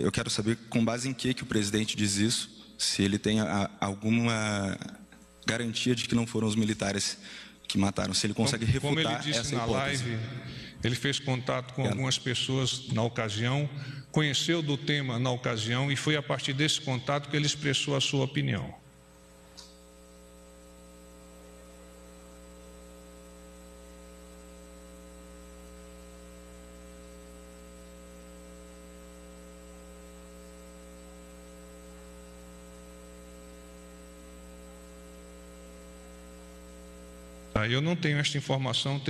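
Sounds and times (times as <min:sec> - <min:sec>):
electrical mains hum: 0:00.0 - 0:39.0.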